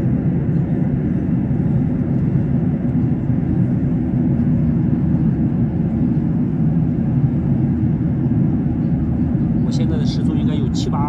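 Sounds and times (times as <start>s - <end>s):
airliner cabin engine hum: 0.0s - 11.0s.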